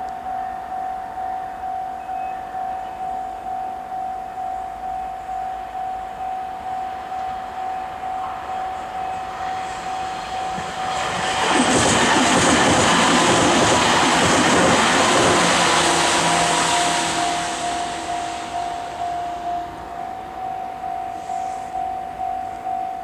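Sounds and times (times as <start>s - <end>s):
level-crossing warning bell: 0.0s - 23.0s
train rumbling over crossing: 0.1s - 23.0s.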